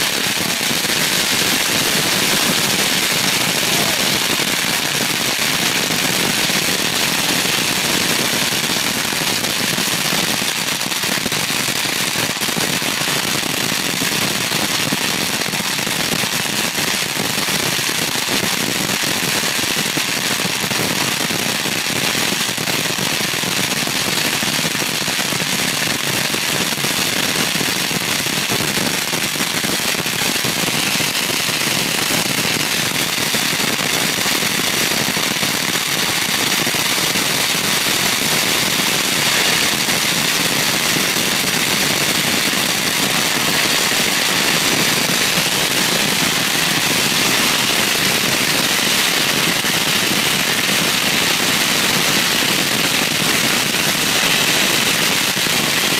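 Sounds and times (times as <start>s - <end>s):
firecrackers crackling: 0.0s - 55.9s.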